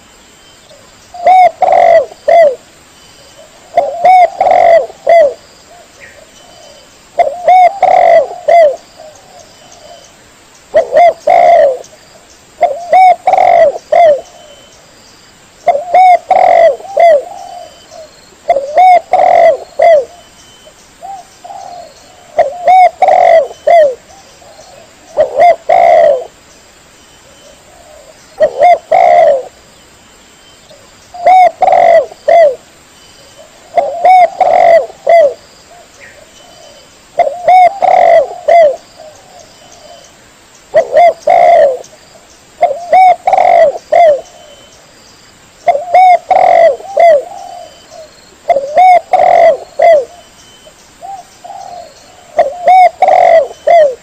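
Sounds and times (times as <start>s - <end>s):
dove cooing: 0.7s - 2.6s, 3.4s - 10.1s, 10.7s - 11.9s, 12.6s - 14.7s, 15.6s - 20.3s, 21.0s - 26.4s, 27.4s - 29.6s, 30.7s - 32.6s, 33.3s - 40.1s, 40.7s - 41.9s, 42.6s - 44.7s, 45.6s - 50.3s, 51.0s - 54.0s.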